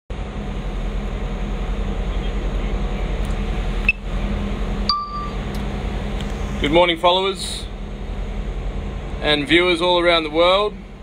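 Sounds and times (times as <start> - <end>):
boat diesel engine running: 0.1 - 11.0.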